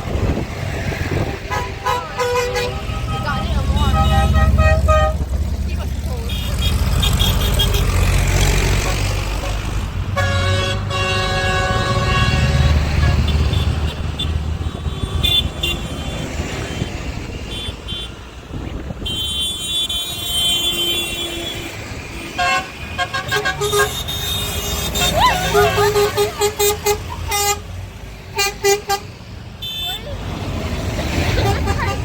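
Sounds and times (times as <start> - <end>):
tractor engines rumbling: 0.0 - 32.0
vehicle horns honking: 1.3 - 5.5, 6.2 - 18.4, 19.0 - 30.2, 31.2 - 32.0.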